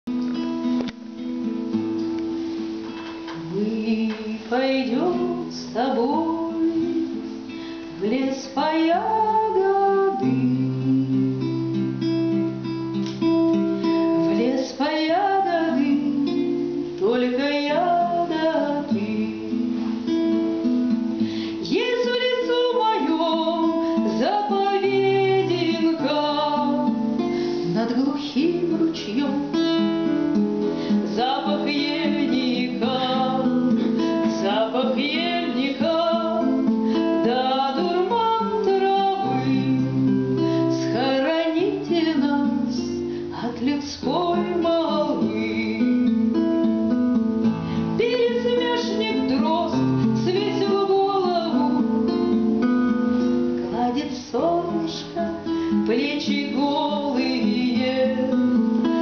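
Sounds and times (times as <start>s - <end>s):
classical guitar plucked and strummed: 0.1s - 59.0s
woman singing: 2.8s - 59.0s.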